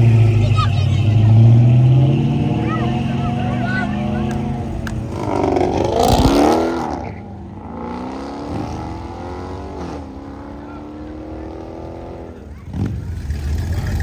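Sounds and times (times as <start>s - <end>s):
car accelerating and passing by: 0.0s - 14.0s
engine pulling away: 0.0s - 14.0s.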